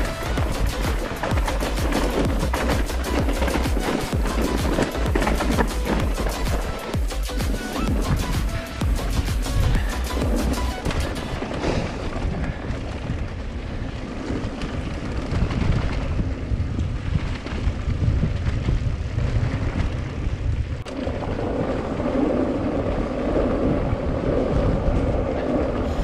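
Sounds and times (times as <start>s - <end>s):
steady low rumble: 0.0s - 26.0s
wind buffeting microphone: 0.0s - 26.0s.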